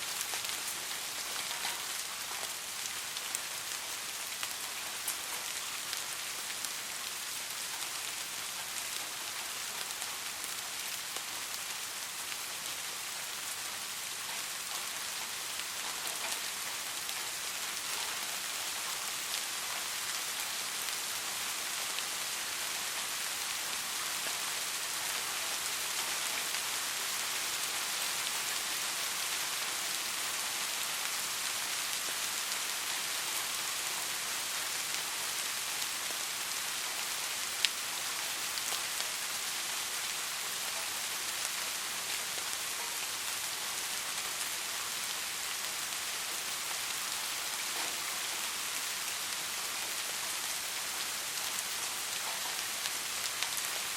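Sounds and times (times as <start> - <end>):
soft steady rain: 0.0 - 53.9.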